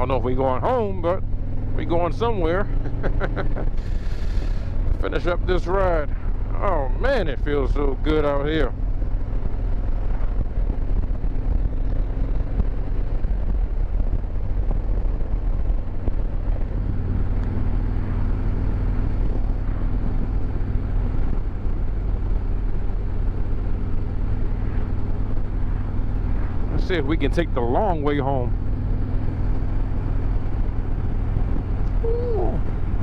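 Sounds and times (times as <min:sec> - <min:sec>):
motorcycle engine rumble: 0:00.0 - 0:33.0
wind and road noise: 0:00.0 - 0:33.0.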